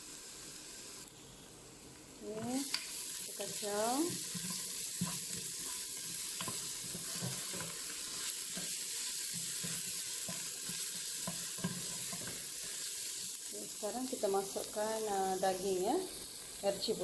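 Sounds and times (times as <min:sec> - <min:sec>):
food sizzling in hot oil: 0:00.0 - 0:01.1, 0:02.2 - 0:17.0.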